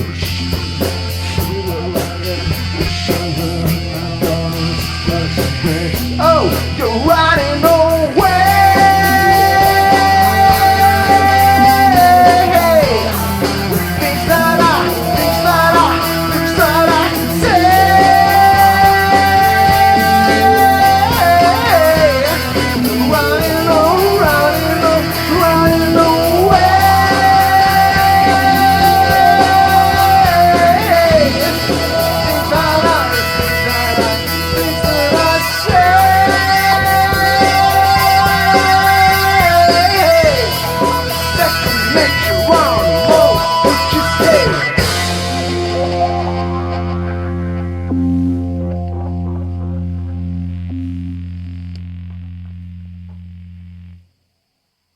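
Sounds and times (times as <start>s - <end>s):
rock band playing live: 0.0s - 52.3s
lead guitar bending notes: 0.0s - 54.0s.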